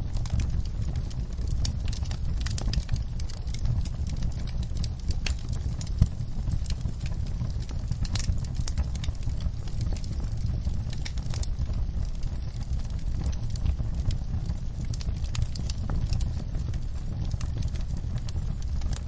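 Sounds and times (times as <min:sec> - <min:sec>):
low rumble of flames: 0:00.0 - 0:19.0
sharp pops of fire: 0:00.0 - 0:19.0
wood fire crackling: 0:00.0 - 0:19.0.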